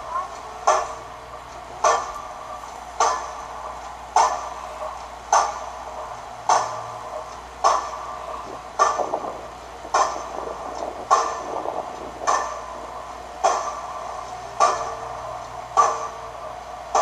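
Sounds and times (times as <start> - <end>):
metal banging with ringing: 1.8 - 17.0.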